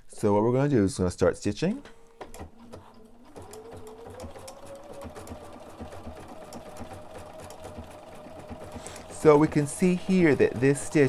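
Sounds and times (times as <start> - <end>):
sewing machine motor whine: 2.1 - 11.0.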